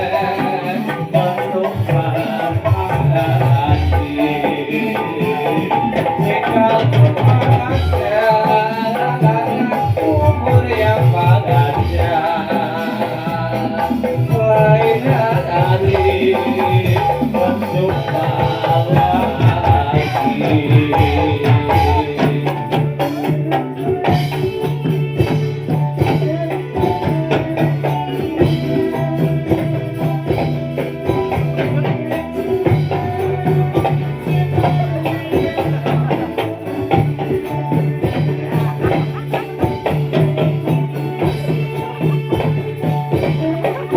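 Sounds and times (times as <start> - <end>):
frame drums: 0.0 - 43.9
jingling tambourine percussion: 0.0 - 43.9
steady low drum beat: 0.0 - 43.9.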